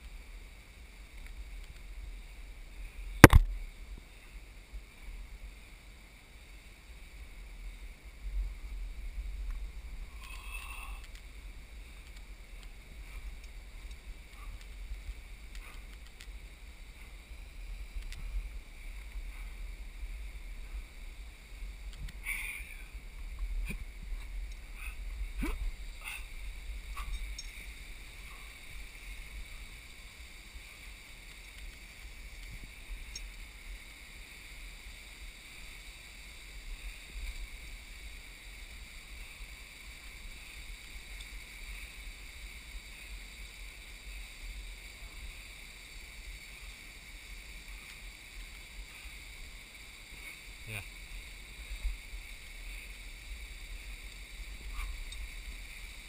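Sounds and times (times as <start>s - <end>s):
steady high hiss: 0.0s - 56.0s
wind and handling rumble: 6.4s - 56.0s.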